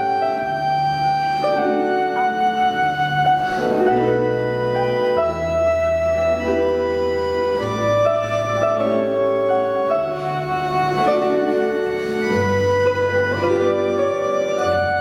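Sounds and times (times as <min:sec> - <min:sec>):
folk orchestra playing slow chords: 0:01.0 - 0:15.0.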